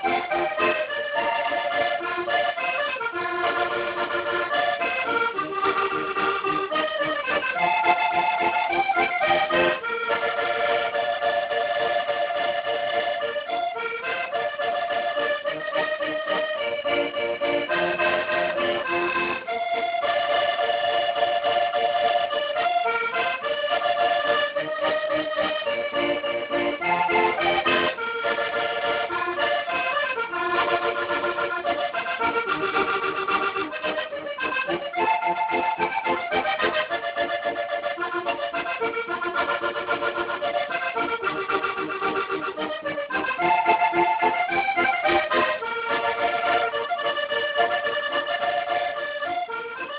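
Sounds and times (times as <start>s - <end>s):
accordion music: 0.0s - 49.9s.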